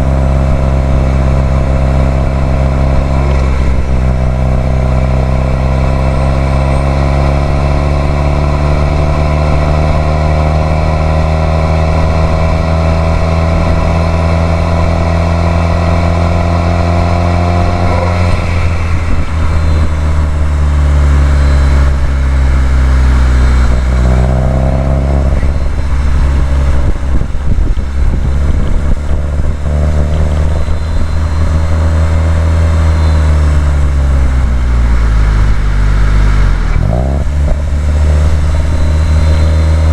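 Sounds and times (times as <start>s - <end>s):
turbocharged car engine accelerating: 0.0s - 39.9s.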